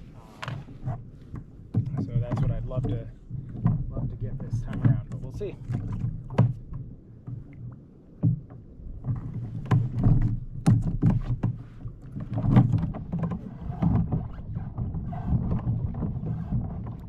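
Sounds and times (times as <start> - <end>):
water slapping kayak hull: 0.0 - 17.0.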